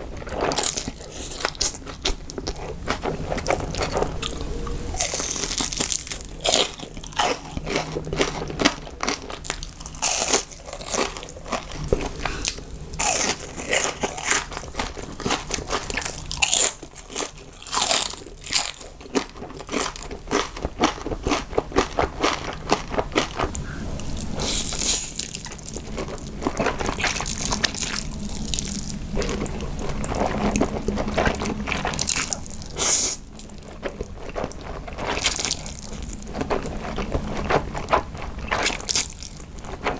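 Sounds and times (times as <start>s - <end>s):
person crunching and chewing: 0.0s - 39.9s.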